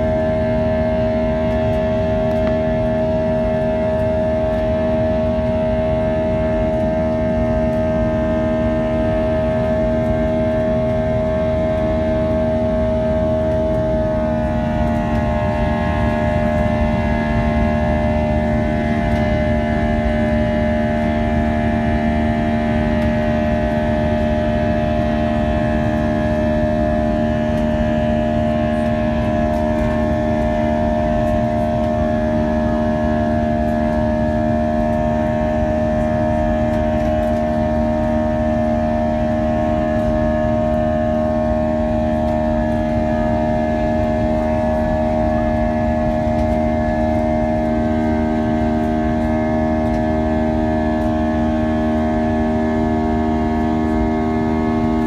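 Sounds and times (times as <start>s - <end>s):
jet engines droning in cabin: 0.0s - 55.0s.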